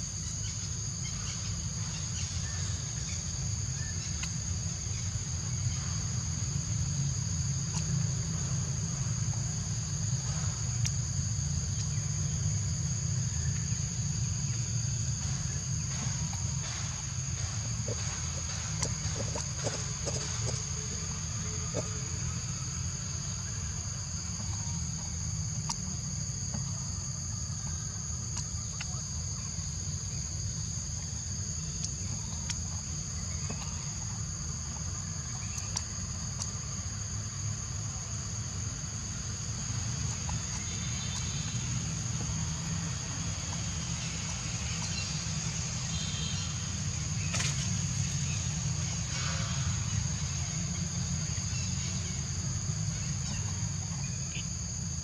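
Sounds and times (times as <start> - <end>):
insects droning: 0.0 - 55.0
low outdoor rumble: 1.1 - 55.0.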